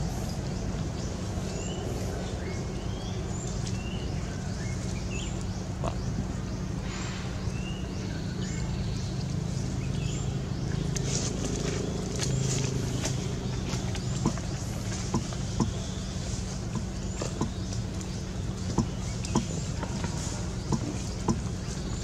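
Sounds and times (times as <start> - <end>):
bird chirping: 0.0 - 22.0
low engine-like hum: 0.0 - 22.0.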